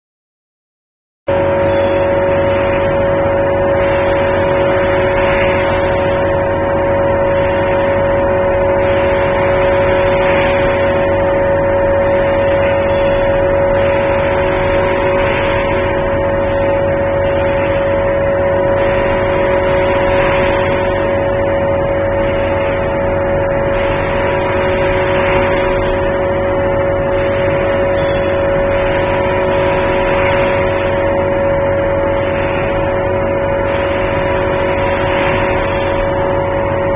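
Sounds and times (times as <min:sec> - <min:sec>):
machine hum: 0:01.3 - 0:36.9.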